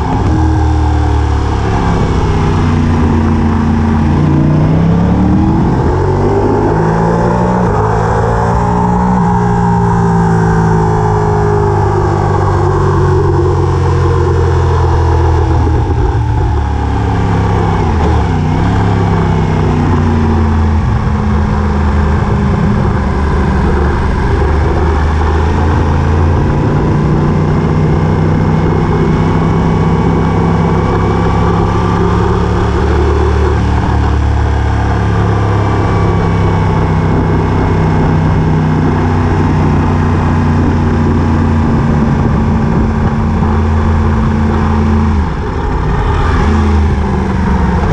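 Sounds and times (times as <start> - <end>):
vehicle engine droning: 0.0 - 47.9.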